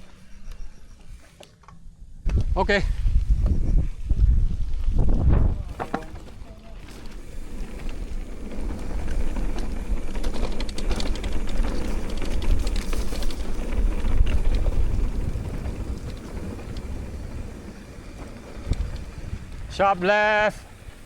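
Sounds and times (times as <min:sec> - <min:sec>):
bike tyre noise: 0:00.0 - 0:21.0
wind rumble on microphone: 0:02.0 - 0:21.0.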